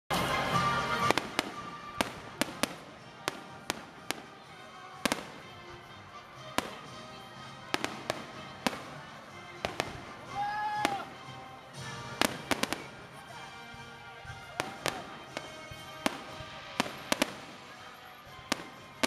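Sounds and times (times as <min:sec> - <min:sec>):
fireworks bangs: 0:00.1 - 0:05.8, 0:06.5 - 0:07.0, 0:07.6 - 0:19.0
background noise: 0:00.1 - 0:19.0.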